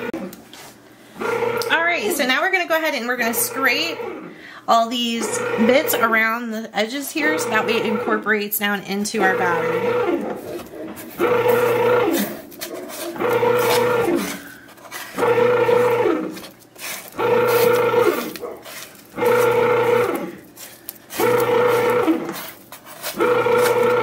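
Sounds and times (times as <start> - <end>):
bread maker motor humming: 0.0 - 6.4, 7.1 - 24.0.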